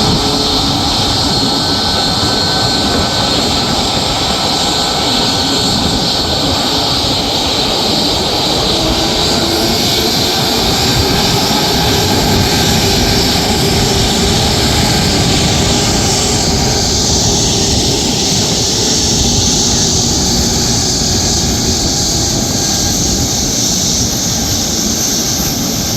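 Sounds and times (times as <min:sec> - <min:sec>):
jet engines whining: 0:00.0 - 0:25.9.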